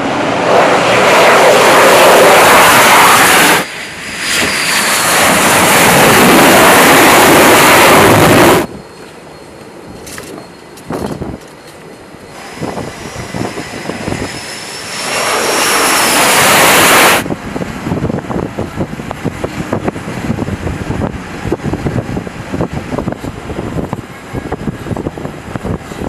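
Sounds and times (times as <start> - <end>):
jet engine roar with high whine: 0.0 - 26.0.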